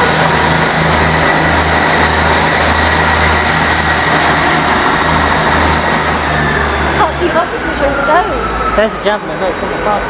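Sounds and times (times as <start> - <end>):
diesel train engine throbbing: 0.0 - 10.0.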